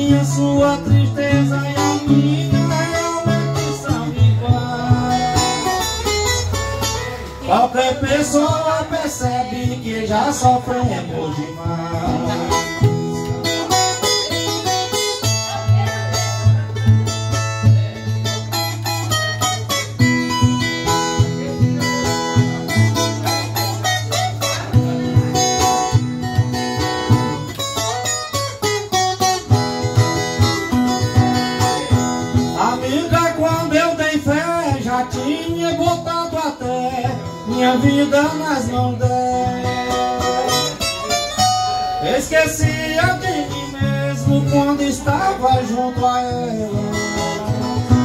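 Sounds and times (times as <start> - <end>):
man singing: 0.0 - 16.8, 21.3 - 48.0
ten-string viola plucked and strummed: 0.0 - 48.0.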